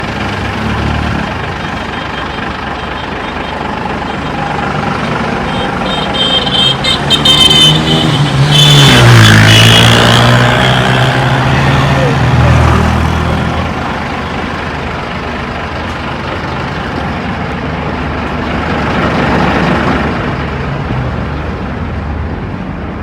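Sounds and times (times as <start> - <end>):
diesel truck engine running: 0.0 - 22.4.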